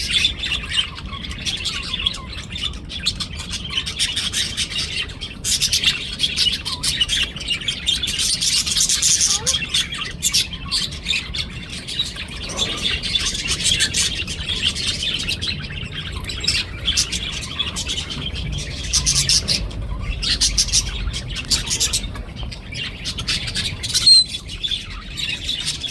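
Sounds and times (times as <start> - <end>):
budgerigars chattering and chirping: 0.0 - 25.9.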